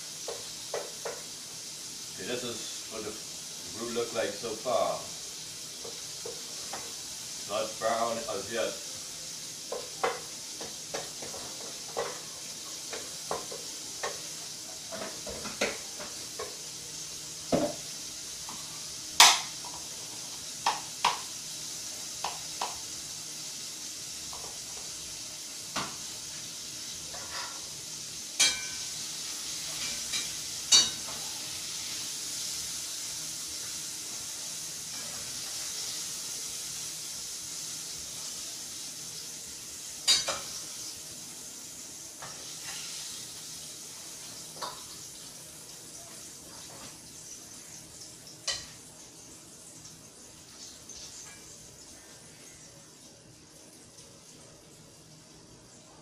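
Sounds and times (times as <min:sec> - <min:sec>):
roux sizzling in a pot: 0:00.0 - 0:56.0.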